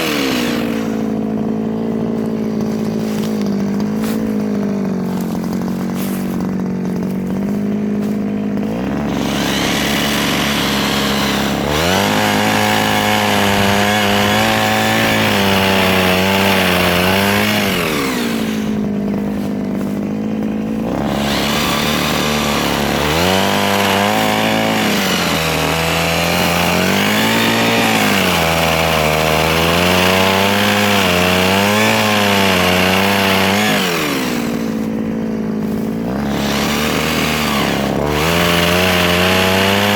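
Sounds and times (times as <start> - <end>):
mini chainsaw cutting wood: 0.0 - 39.9.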